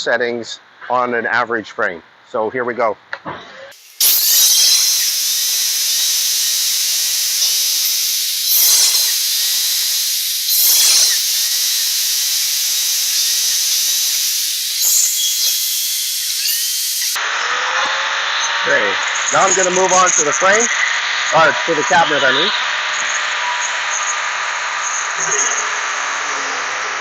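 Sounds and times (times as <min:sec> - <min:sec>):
router machine high hiss: 0:03.7 - 0:17.4, 0:18.6 - 0:26.9.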